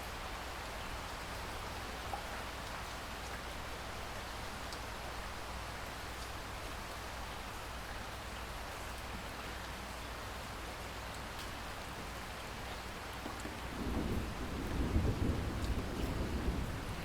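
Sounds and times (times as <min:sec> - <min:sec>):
rain hissing on surfaces: 0:00.0 - 0:17.0.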